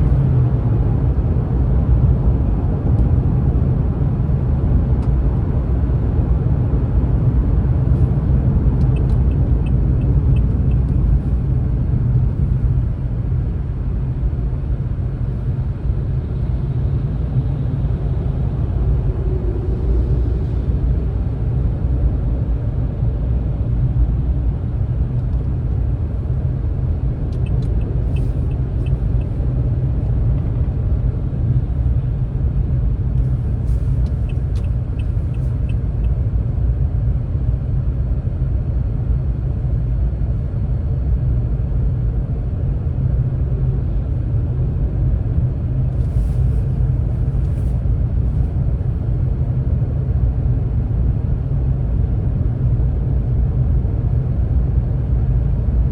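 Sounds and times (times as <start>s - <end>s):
vehicle engine and road noise: 0.0s - 55.9s.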